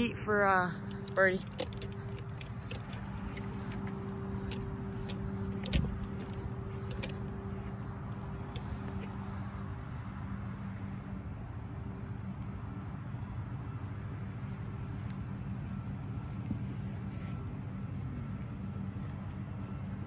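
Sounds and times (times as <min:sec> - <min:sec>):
distant engine humming: 0:00.0 - 0:20.0.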